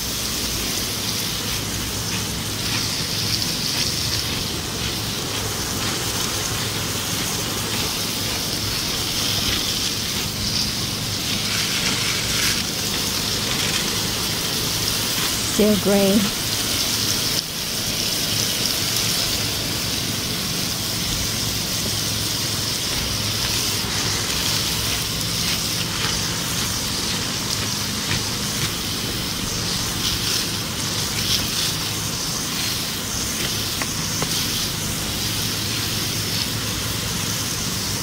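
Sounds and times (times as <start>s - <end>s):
embers crackling: 0.0s - 38.0s
water hissing on fire: 0.0s - 38.0s.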